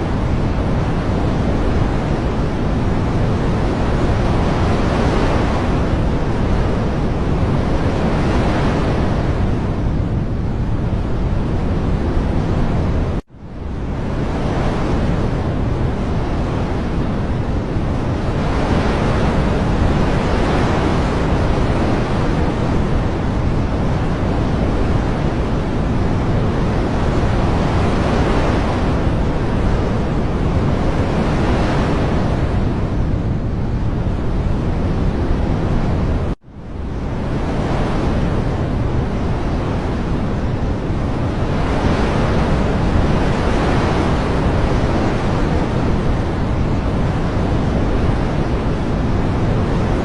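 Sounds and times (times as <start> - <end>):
rushing nature ambience: 0.0 - 50.0.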